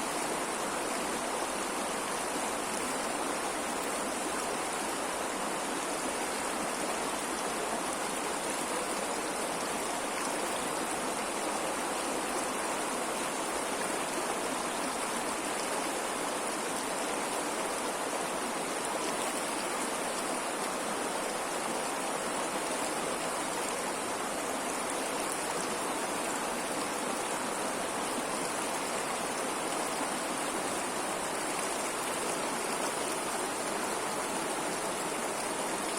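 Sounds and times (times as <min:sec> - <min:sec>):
running water rushing: 0:00.0 - 0:35.9.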